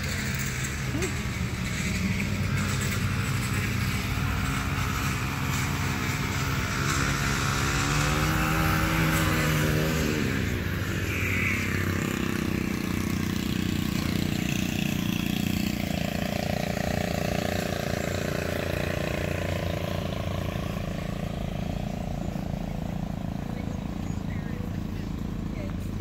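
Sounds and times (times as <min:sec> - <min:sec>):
small petrol engine running: 0:00.0 - 0:26.0.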